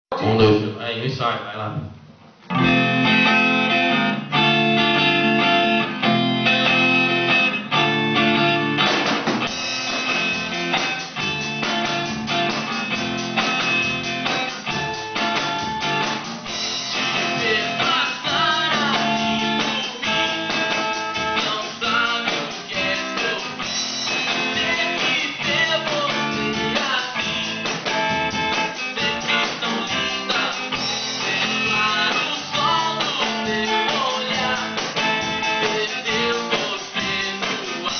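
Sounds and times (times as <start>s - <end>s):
drum kit beat: 1.6s - 37.9s
guitars playing chords: 1.9s - 37.9s.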